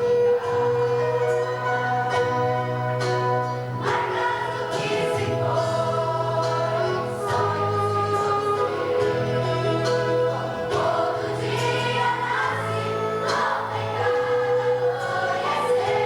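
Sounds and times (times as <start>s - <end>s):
choir singing: 0.0s - 2.2s, 2.8s - 16.0s
instrumental accompaniment: 0.0s - 16.0s.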